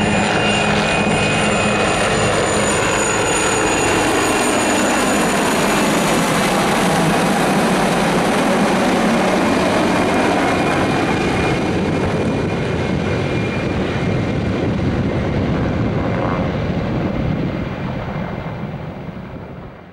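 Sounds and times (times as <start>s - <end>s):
helicopters flying past: 0.0s - 19.9s.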